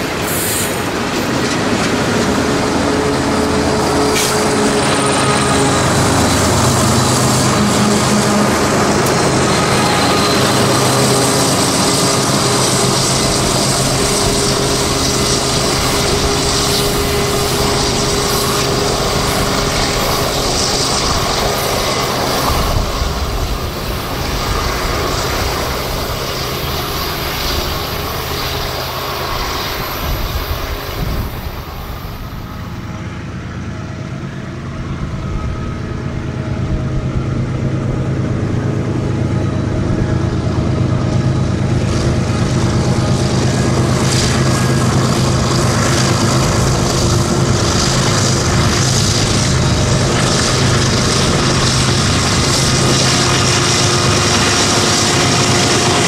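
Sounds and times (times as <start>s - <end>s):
steel wheels rolling on rails: 0.0s - 33.2s, 34.8s - 56.0s
diesel locomotive engines: 0.0s - 56.0s.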